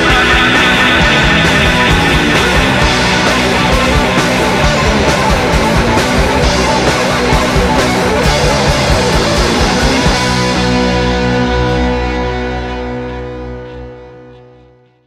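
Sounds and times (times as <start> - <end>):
punk rock music: 0.0 - 15.0.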